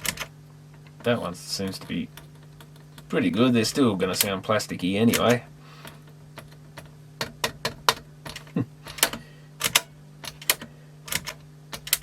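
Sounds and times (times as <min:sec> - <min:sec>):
tape deck doors clicking: 0:00.0 - 0:03.2, 0:05.1 - 0:12.0.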